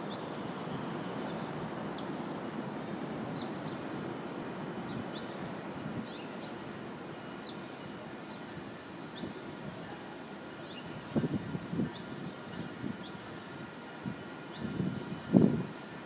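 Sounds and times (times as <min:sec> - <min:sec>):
low city rumble: 0:00.0 - 0:16.0.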